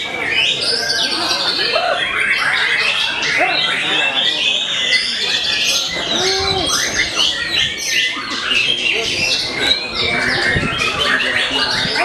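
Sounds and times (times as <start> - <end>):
birds singing with whistles and trills: 0.0 - 12.0.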